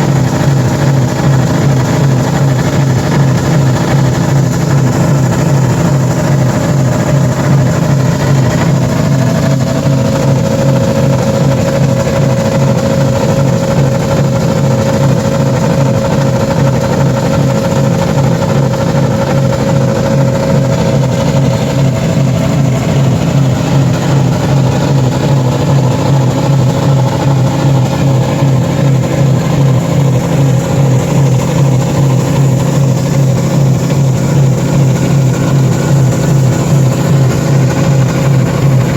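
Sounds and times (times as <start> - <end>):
car engines running: 0.0 - 38.9
high engine whine: 0.0 - 38.9.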